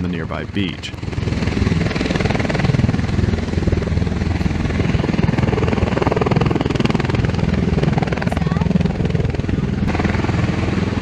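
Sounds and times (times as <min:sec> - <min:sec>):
aircraft rotors chopping: 0:00.0 - 0:11.0.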